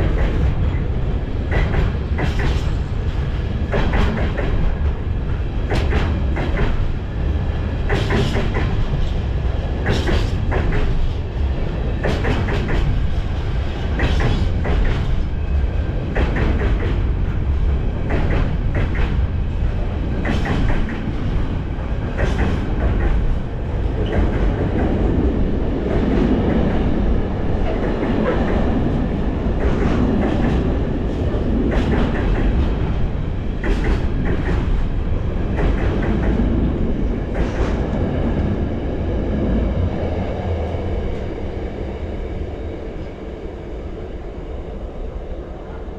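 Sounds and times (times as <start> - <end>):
freight train rolling past: 0.0 - 45.9.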